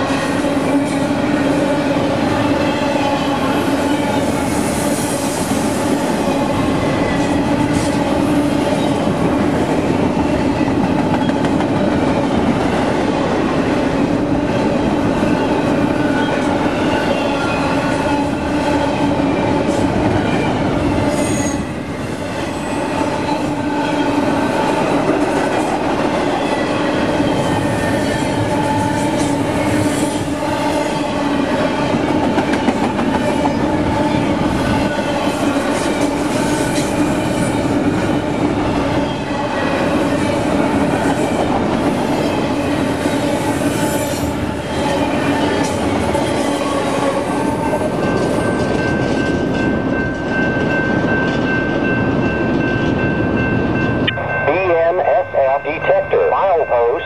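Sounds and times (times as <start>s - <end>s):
freight train wheels rolling on rails: 0.0s - 54.4s.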